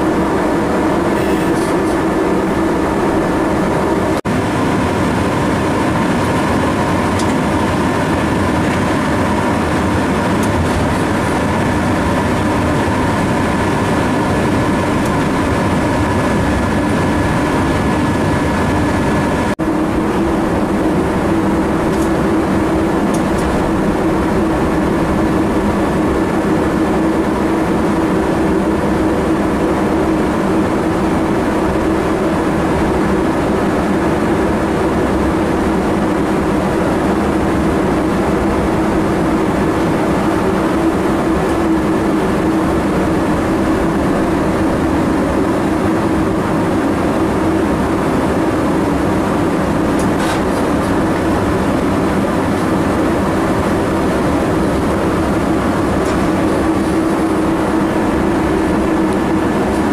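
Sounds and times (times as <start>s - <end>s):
cooling fans whining: 0.0s - 59.9s
rumble of locomotive ride: 0.0s - 59.9s.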